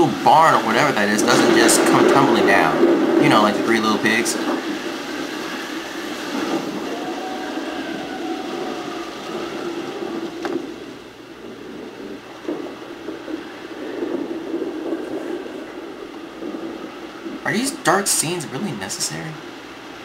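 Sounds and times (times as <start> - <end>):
rain: 0.0 - 20.0
rumbling wind: 0.0 - 20.0
wind whistling: 0.0 - 20.0.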